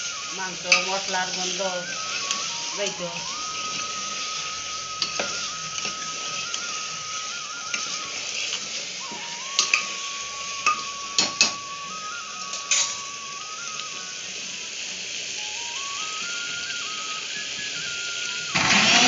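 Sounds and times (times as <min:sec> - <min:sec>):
whistle-like background melody: 0:00.0 - 0:19.0.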